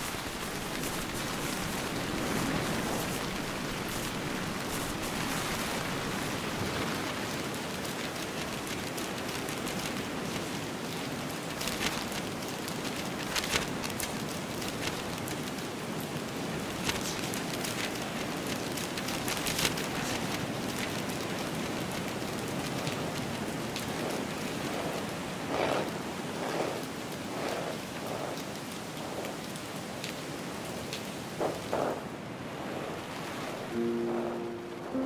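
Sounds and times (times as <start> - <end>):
rain shower hissing: 0.0 - 35.0.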